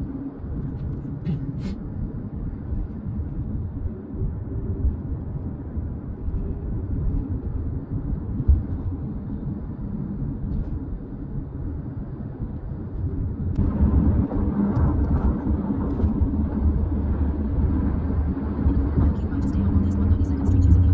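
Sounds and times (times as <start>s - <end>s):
car road and engine rumble: 0.0s - 20.9s.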